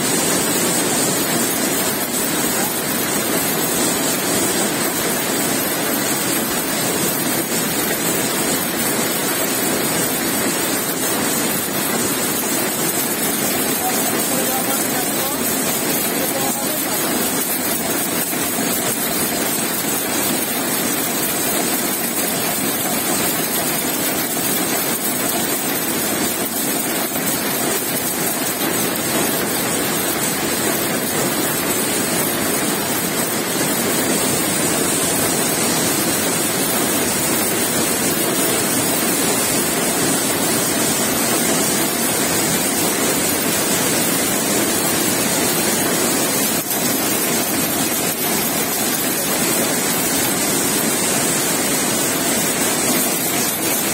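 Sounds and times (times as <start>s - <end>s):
looms running: 0.0s - 53.9s.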